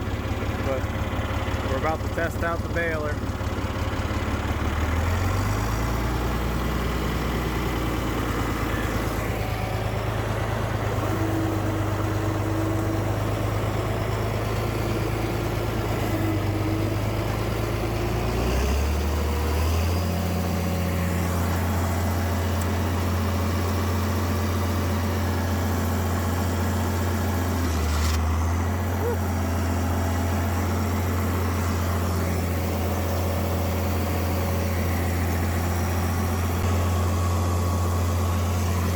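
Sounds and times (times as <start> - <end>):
round baler running: 0.0 - 38.9
tractor engine running: 0.0 - 38.9.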